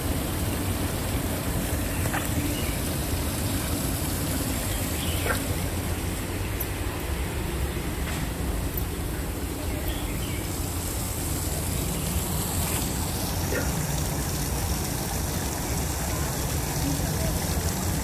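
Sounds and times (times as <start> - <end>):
waterfall: 0.0 - 18.0.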